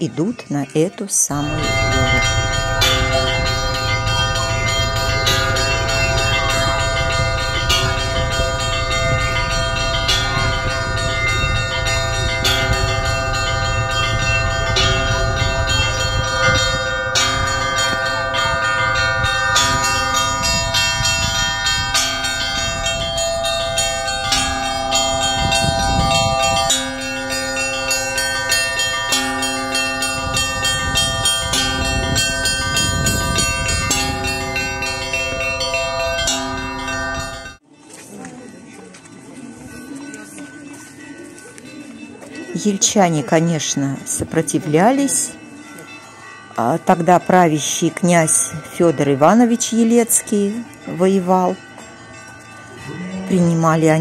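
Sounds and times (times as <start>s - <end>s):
church bells pealing: 0.3s - 54.0s.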